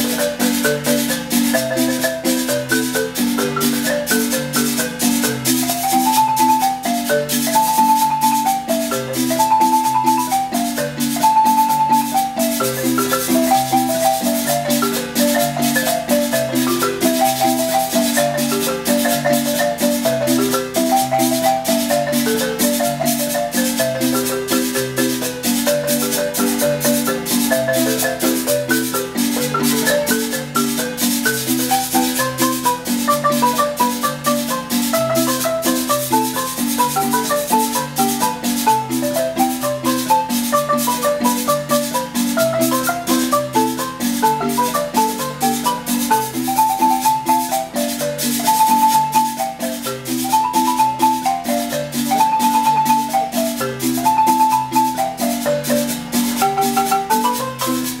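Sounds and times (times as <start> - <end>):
marimba tune: 0.0 - 58.0
metal shaker rhythm: 0.0 - 58.0.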